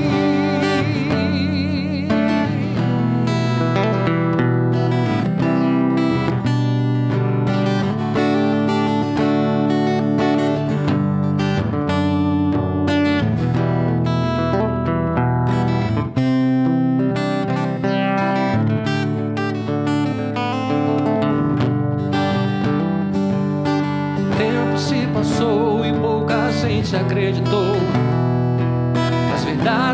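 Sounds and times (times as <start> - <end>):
acoustic guitar playing: 0.0 - 29.9.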